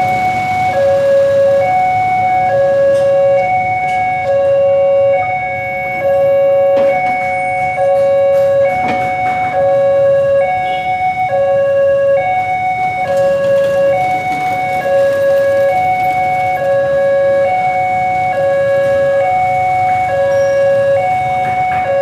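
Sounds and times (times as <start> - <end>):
level crossing alarm two-tone: 0.0 - 22.0.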